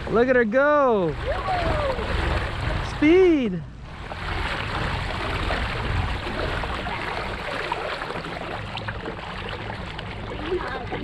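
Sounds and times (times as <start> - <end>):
continuous low rumble: 0.0 - 11.0
water rushing and splashing: 0.0 - 11.0.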